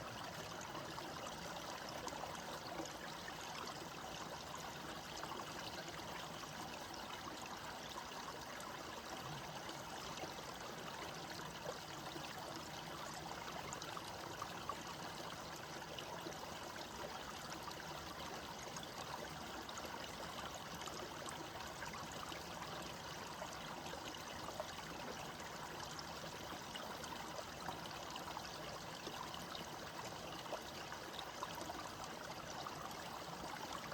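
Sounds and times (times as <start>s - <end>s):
small stream trickling: 0.0s - 33.9s.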